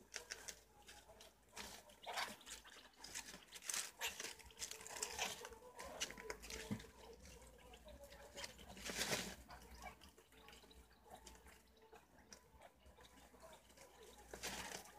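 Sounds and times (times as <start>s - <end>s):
rustling and nibbling: 0.0s - 14.9s
animals squeaking: 0.2s - 14.9s.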